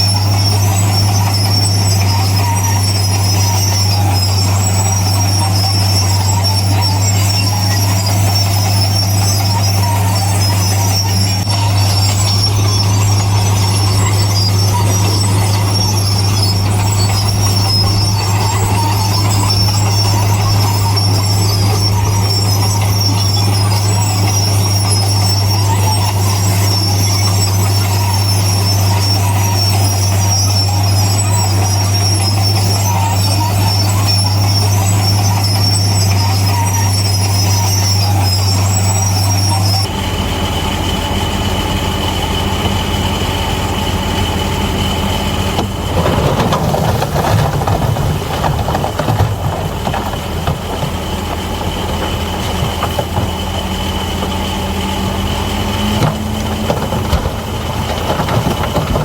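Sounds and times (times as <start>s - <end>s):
bulldozer diesel engine whining: 0.0s - 59.0s
crawler tracks clanking: 0.0s - 59.0s.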